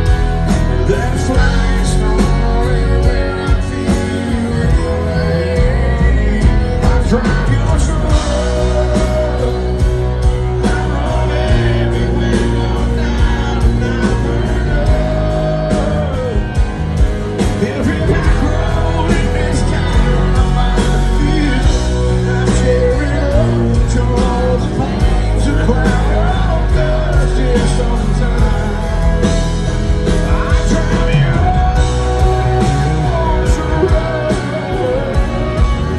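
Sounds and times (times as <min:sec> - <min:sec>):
country band playing: 0:00.0 - 0:35.9
drums: 0:00.0 - 0:35.9
guitars: 0:00.0 - 0:35.9
person singing: 0:00.0 - 0:35.9.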